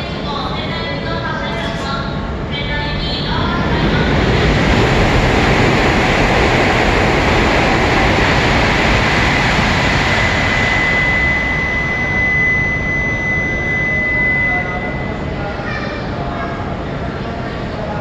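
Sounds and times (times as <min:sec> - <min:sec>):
train rushing past: 0:00.0 - 0:18.0
high-pitched whine: 0:02.2 - 0:18.0.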